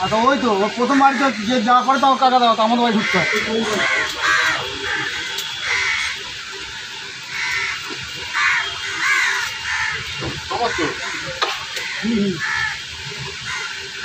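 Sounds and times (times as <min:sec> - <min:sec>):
crows cawing: 0:00.7 - 0:02.2, 0:02.8 - 0:14.0.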